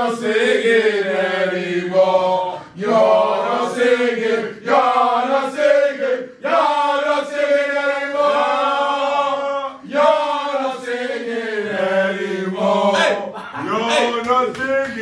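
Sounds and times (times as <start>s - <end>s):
men chanting a football song: 0.0s - 15.0s.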